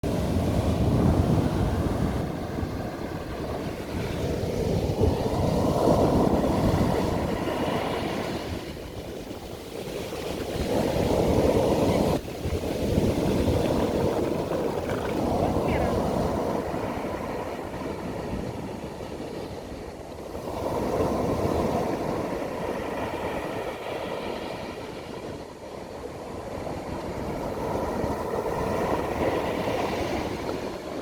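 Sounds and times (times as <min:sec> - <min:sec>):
ocean waves breaking: 0:00.0 - 0:31.0
wind rumbling on microphone: 0:00.0 - 0:31.0.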